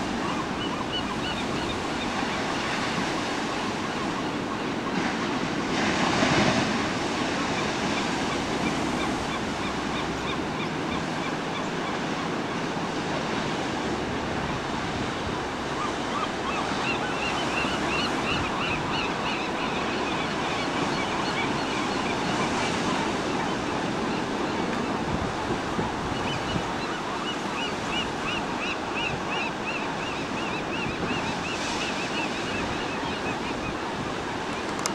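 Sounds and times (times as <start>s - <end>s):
gulls calling: 0.0s - 34.9s.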